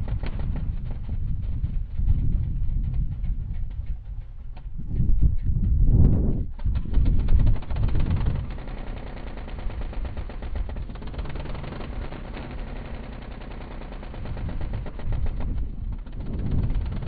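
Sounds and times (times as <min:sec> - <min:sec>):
vehicle engine pulsing rattle: 0:00.0 - 0:17.0.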